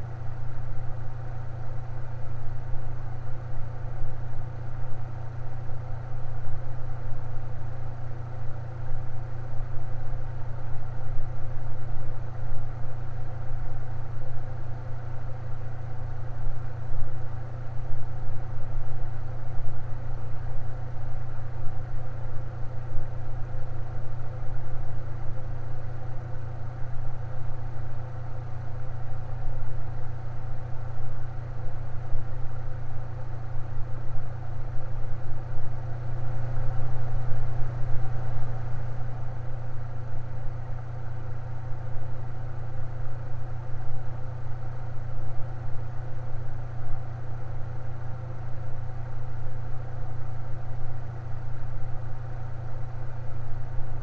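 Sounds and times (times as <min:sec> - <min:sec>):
electric fan running: 0:00.0 - 0:54.0.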